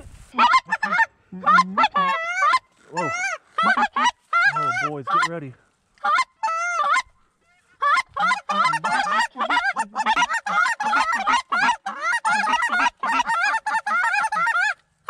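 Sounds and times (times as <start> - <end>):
geese honking: 0.4 - 14.8.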